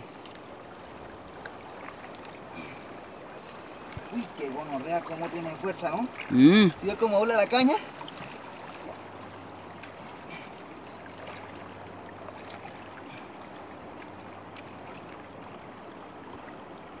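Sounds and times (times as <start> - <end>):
water lapping at shore: 0.0 - 17.0.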